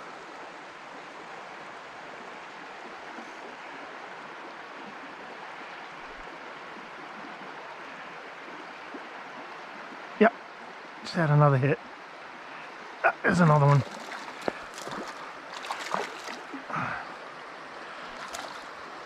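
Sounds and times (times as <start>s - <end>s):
brook water running: 0.0s - 19.0s.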